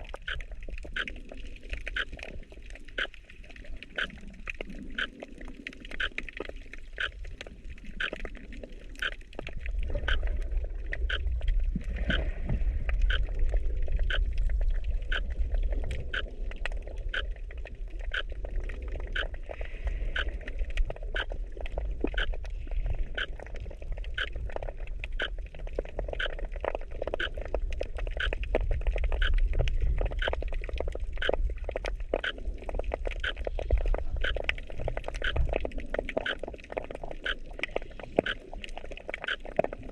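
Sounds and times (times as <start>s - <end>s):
faint clicks: 0.0s - 12.3s, 12.9s - 17.3s, 20.1s - 22.5s, 24.0s - 25.4s, 26.0s - 32.4s, 33.0s - 39.8s
underwater rumble of moving water: 0.0s - 39.9s.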